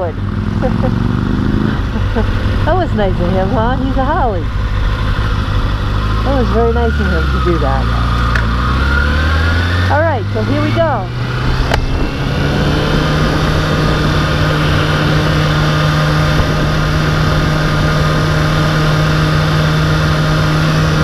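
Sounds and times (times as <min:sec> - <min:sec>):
motorcycle engine running: 0:00.0 - 0:21.0
road and wind noise: 0:00.0 - 0:21.0.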